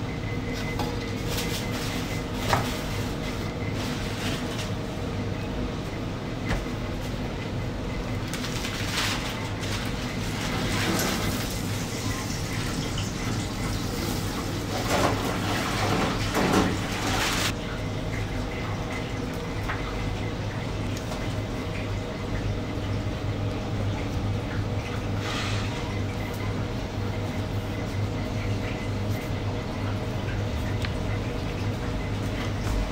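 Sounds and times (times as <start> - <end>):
steady mechanical hum: 0.0 - 32.9.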